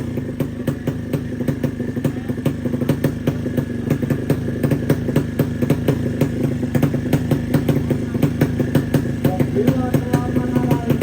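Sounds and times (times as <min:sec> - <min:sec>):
exhaust popping: 0:00.0 - 0:11.0
motorcycle engine running: 0:00.0 - 0:11.0.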